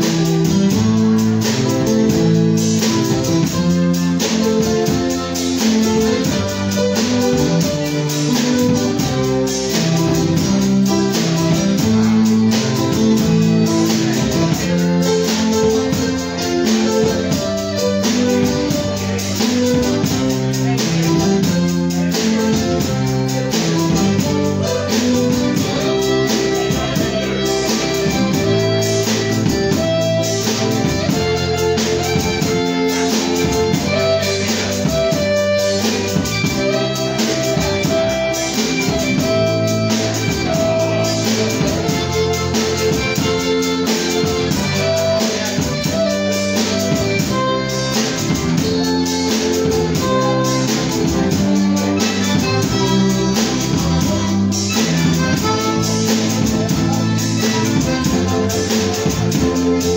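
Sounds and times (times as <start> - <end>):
button accordion: 0.0 - 59.9
drum kit dance beat: 0.0 - 59.9
electric guitar: 0.0 - 59.9.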